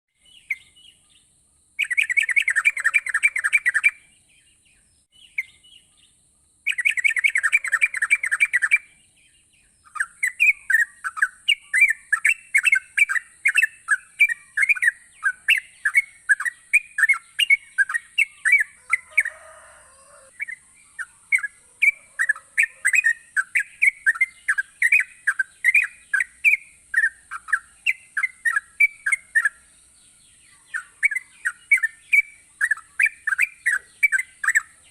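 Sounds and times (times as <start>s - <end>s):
bird chattering: 1.8s - 4.0s, 6.7s - 8.8s, 9.8s - 29.6s, 30.6s - 34.9s.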